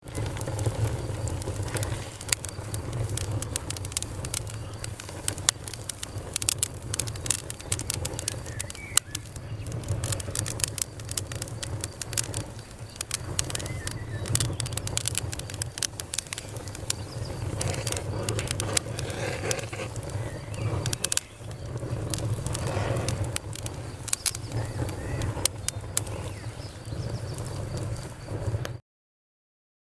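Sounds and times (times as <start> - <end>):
campfire wood crackling and popping: 0.0 - 28.8.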